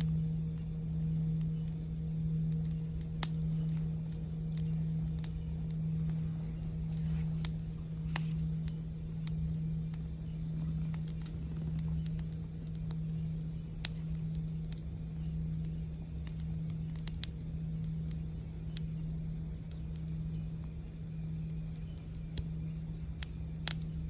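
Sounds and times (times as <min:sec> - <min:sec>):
campfire crackling: 0:00.0 - 0:24.0
singing bowl humming: 0:00.0 - 0:24.0.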